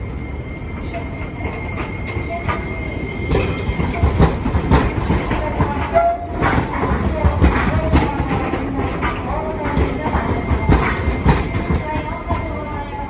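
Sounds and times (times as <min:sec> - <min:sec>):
steady tram rumble: 0:00.0 - 0:13.0
tram wheels clicking over rail joints: 0:00.7 - 0:13.0.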